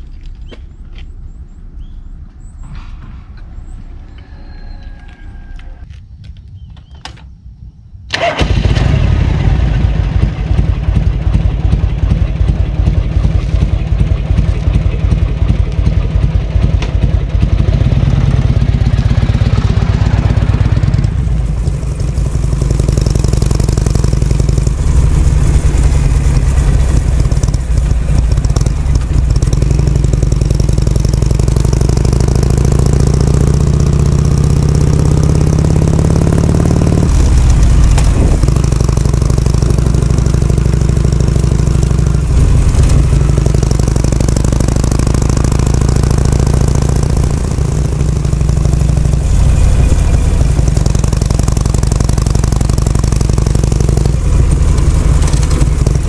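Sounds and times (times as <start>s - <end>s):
motorcycle engine starting and running: 8.1s - 56.0s.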